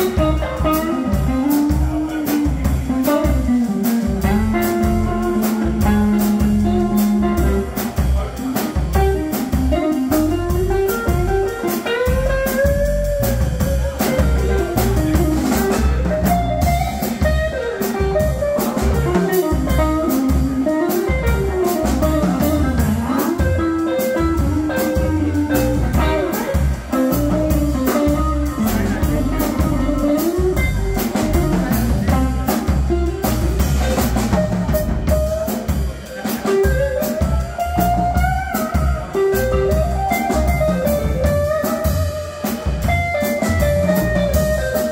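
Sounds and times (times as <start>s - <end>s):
upright double bass: 0.0s - 35.9s, 36.7s - 44.9s
drum kit: 0.0s - 44.9s
electric guitar lead lines: 0.0s - 44.9s.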